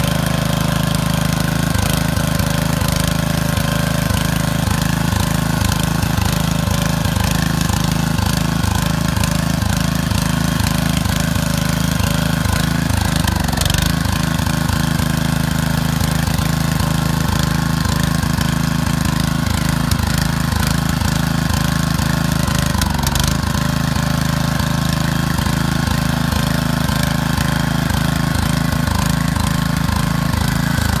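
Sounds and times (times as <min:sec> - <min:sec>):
tractor engine running under load: 0:00.0 - 0:31.0.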